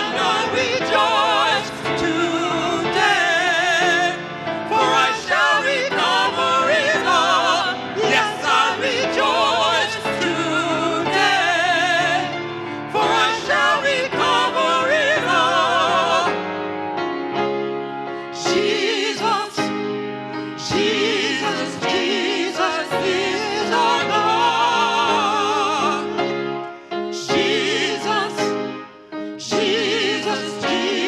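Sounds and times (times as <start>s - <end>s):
person singing gospel: 0.0s - 16.4s, 18.2s - 19.8s, 20.5s - 26.4s, 27.0s - 31.0s.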